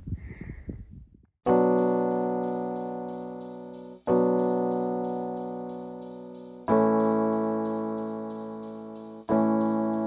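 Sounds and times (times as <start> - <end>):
slow keyboard chord: 1.5 - 10.0.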